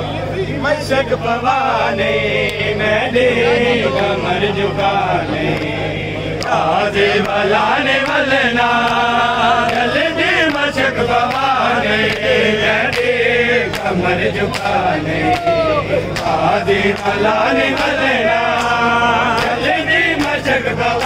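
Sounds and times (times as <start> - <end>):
men chanting in chorus: 0.2 - 21.0.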